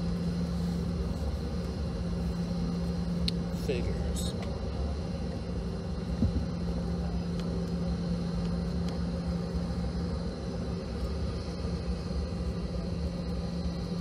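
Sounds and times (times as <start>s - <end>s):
jet engine hum: 0.0s - 14.0s.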